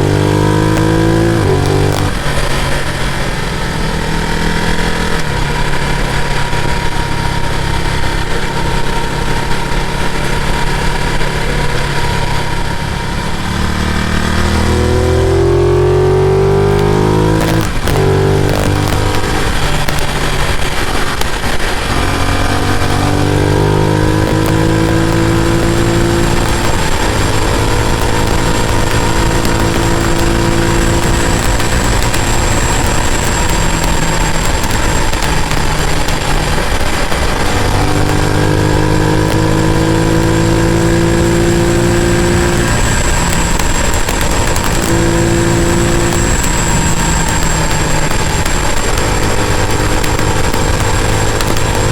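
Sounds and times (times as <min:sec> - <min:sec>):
motorcycle engine running: 0:00.0 - 0:51.9
wind and road noise: 0:00.0 - 0:51.9.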